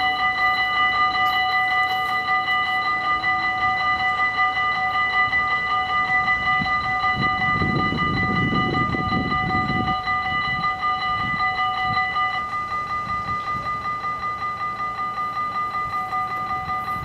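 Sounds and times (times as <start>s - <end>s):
level-crossing warning bells: 0.0s - 17.0s
train rumbling past: 0.0s - 17.0s.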